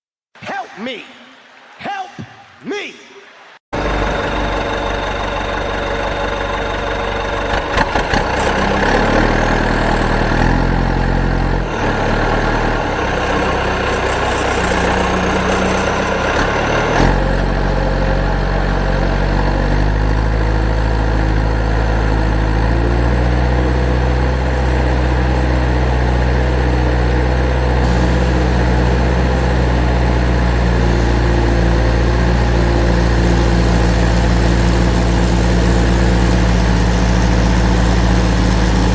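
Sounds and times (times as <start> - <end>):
truck engine running: 3.8 - 38.9.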